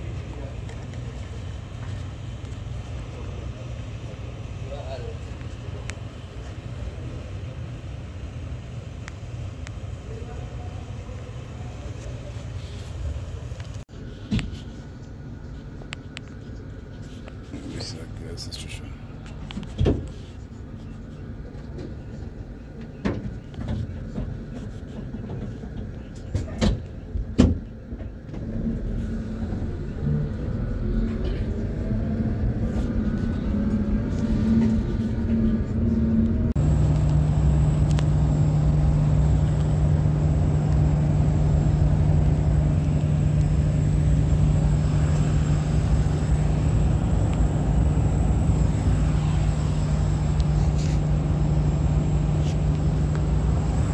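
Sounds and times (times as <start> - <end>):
van engine and road noise: 0.0 - 53.9.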